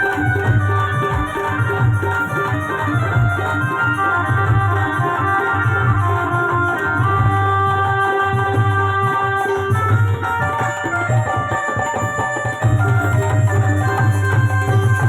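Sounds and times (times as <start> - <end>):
drums beating steady rhythm: 0.0 - 15.0
held melody notes: 0.0 - 15.0.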